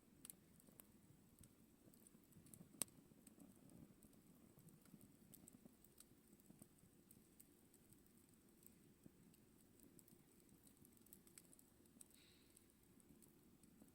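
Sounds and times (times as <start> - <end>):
campfire crackling: 0.0 - 13.9.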